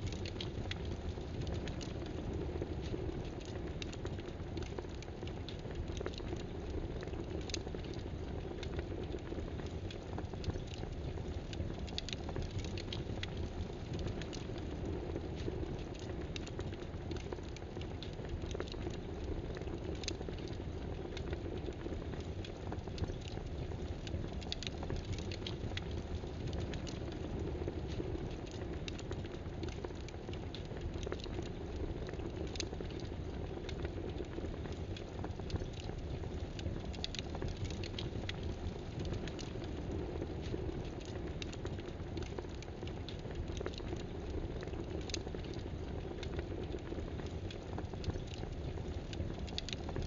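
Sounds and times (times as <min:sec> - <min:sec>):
light irregular clicks: 0:00.0 - 0:02.2, 0:07.3 - 0:39.8, 0:40.4 - 0:50.0.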